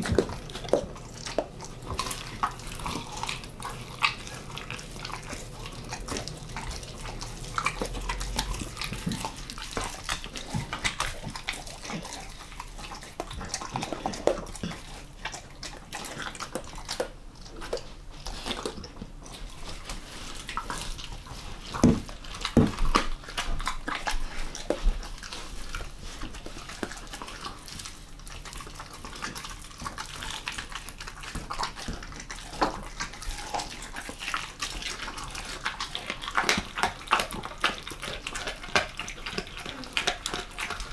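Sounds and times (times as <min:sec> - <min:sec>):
dog chewing and licking: 0:00.0 - 0:40.9.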